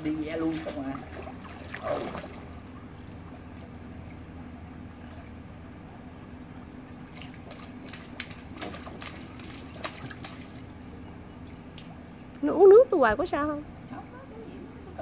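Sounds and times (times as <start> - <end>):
pool water lapping and splashing: 0.0 - 5.8, 6.6 - 12.8
steady low hum: 0.0 - 15.0.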